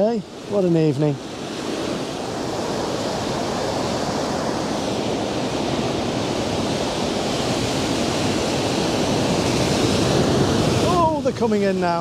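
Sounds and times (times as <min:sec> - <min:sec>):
surf breaking over rocks: 0:00.0 - 0:12.0.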